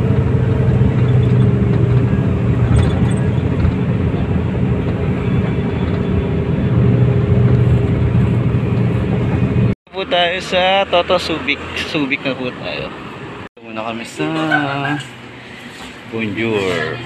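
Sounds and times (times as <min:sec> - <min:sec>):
bus engine hum: 0:00.0 - 0:17.0
road and wind noise: 0:00.0 - 0:17.0.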